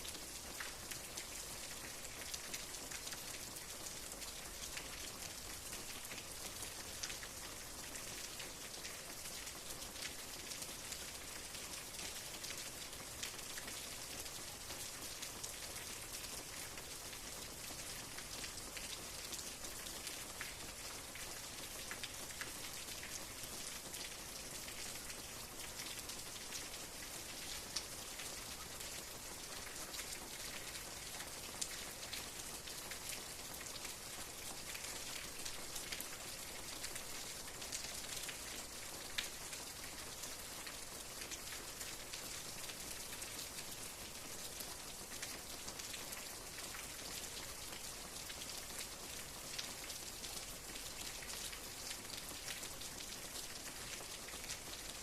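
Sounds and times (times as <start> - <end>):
raindrops ticking on a surface: 0.0 - 55.0
steady rain: 0.0 - 55.0.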